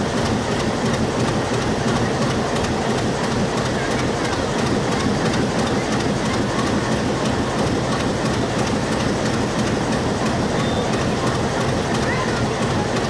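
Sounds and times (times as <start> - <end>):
train wheels rolling: 0.0 - 13.0
wheels clacking over rail joints: 0.0 - 13.0.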